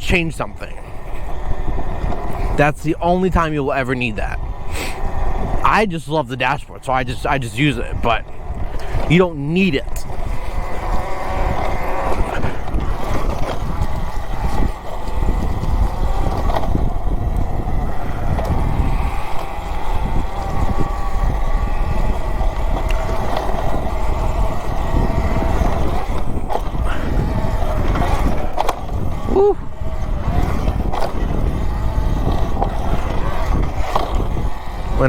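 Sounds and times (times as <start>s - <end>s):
electric motor whine: 0.0s - 35.0s
wind rushing over microphone: 0.0s - 35.0s.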